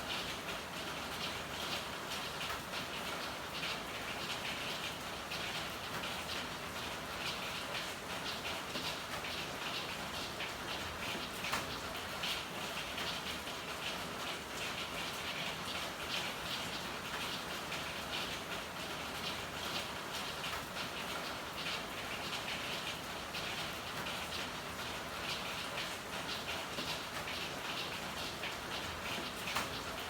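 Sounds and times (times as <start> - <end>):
rain drops pattering: 0.0 - 30.0.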